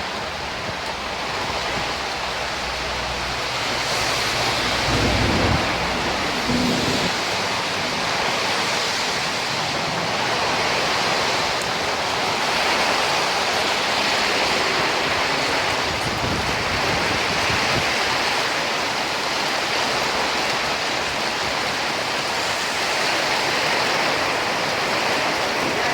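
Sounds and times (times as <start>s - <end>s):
heavy rain downpour: 0.0s - 25.9s.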